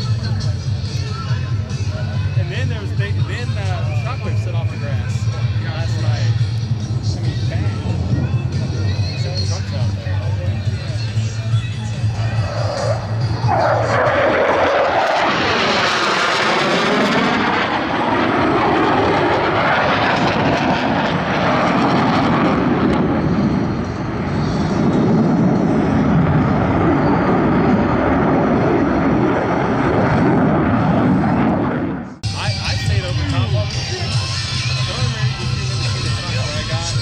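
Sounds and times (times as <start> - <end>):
jets flying overhead: 0.0 - 37.0.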